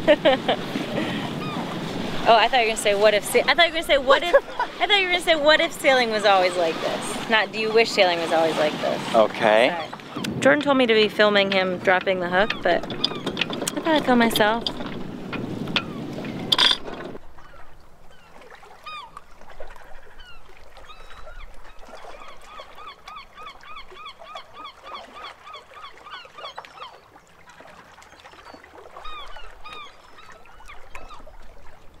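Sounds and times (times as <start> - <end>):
birds calling: 0.7 - 19.2, 19.9 - 27.3, 28.1 - 31.3.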